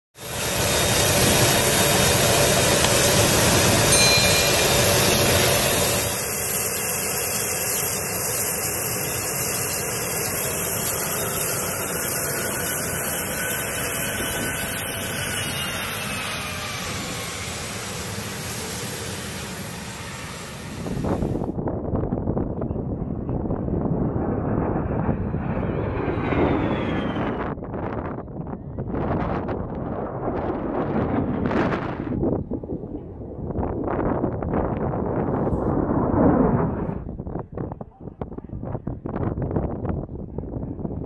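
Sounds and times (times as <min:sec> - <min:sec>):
high whine falling in pitch: 0:00.2 - 0:37.4
jet engine noise: 0:00.2 - 0:41.0.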